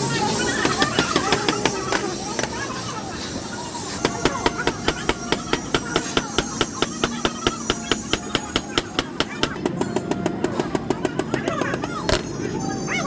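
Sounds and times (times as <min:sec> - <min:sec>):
hammer strikes on metal: 0:00.3 - 0:02.9, 0:03.9 - 0:12.3.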